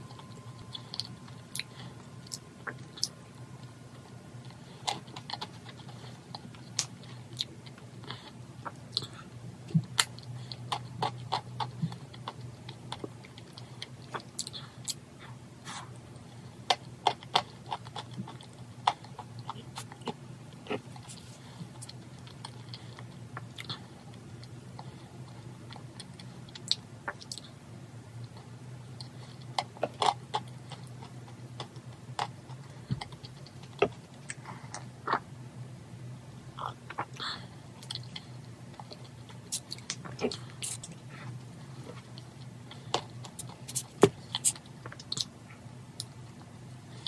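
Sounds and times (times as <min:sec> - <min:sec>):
person chewing cake: 0:00.0 - 0:35.4, 0:36.3 - 0:47.0.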